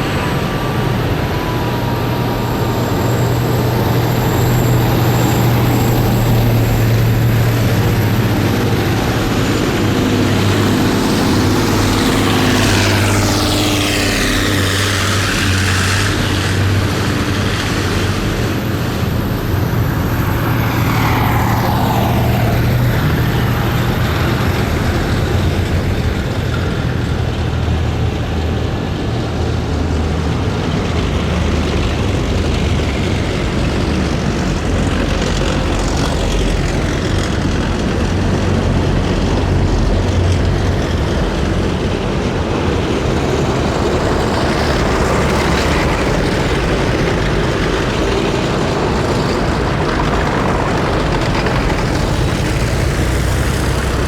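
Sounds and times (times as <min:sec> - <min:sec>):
falling whine: 0:00.0 - 0:54.0
heavy vehicle engines droning: 0:00.0 - 0:54.0.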